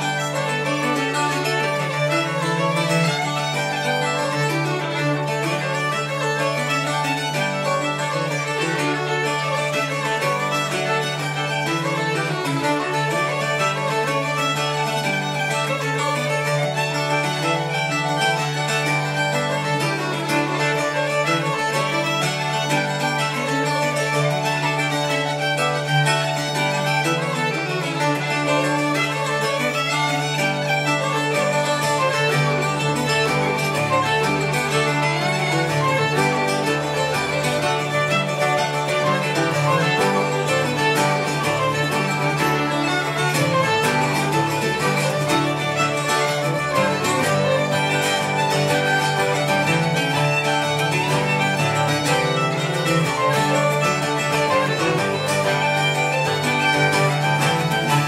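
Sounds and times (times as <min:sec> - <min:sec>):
bouzouki and guitar strumming: 0:00.0 - 0:58.0
fiddle and pipe melody: 0:00.0 - 0:58.0.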